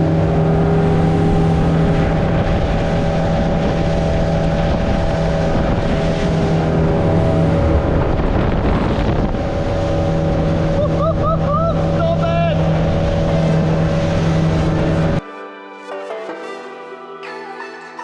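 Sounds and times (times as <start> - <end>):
motorboat engine running: 0.0 - 15.2
wind buffeting microphone: 0.0 - 15.2.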